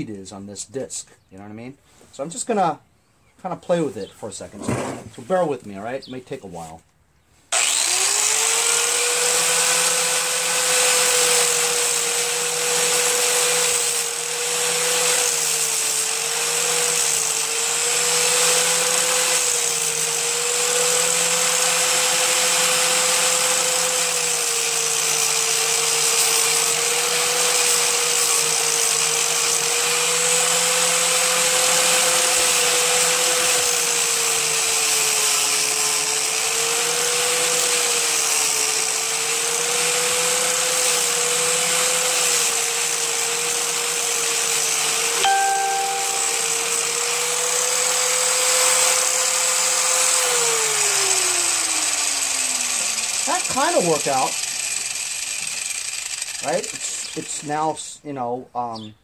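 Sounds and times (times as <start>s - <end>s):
angle grinder grinding plastic: 7.6s - 57.6s.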